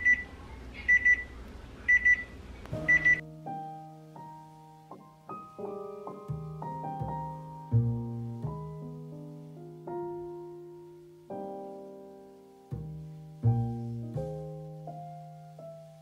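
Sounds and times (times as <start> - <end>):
slow piano notes: 2.7 - 16.0.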